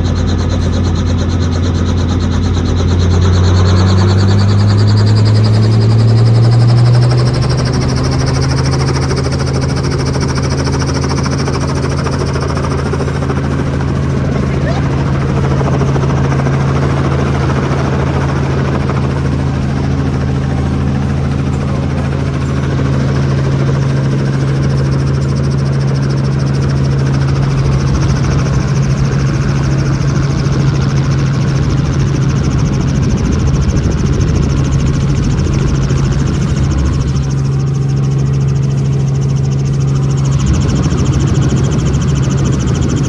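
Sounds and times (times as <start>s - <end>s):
helicopter rotor and turbine hum: 0.0s - 43.0s.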